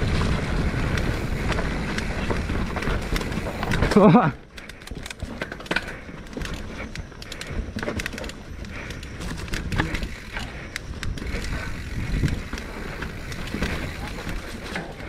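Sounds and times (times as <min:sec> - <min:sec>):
bike rattles and clicks: 0:00.0 - 0:15.0
bike tyres rumbling over dirt: 0:00.0 - 0:15.0.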